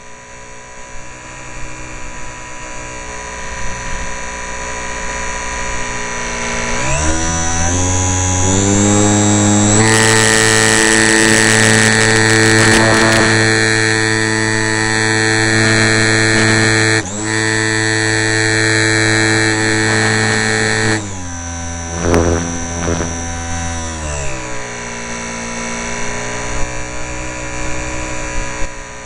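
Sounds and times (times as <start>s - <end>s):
model plane motor whine: 0.0s - 29.0s.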